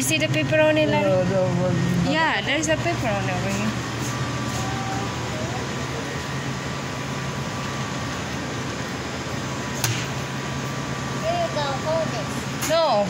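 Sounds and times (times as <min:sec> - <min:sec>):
store background hum and hiss: 0:00.0 - 0:13.0.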